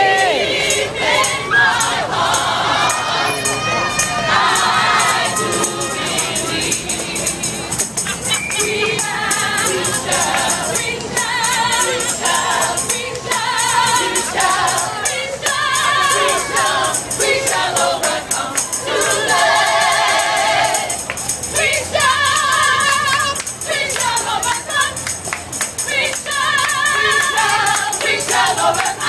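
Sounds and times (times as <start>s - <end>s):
group of voices singing: 0.0s - 29.0s
rhythmic percussion beat: 0.0s - 29.0s.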